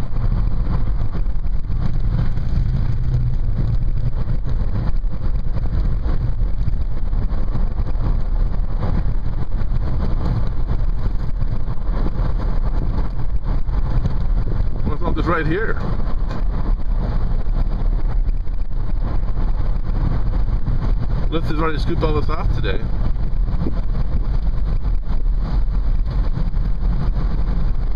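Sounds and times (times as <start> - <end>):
car driving rumble from inside: 0.0 - 27.9
strong wind blowing: 0.0 - 27.9.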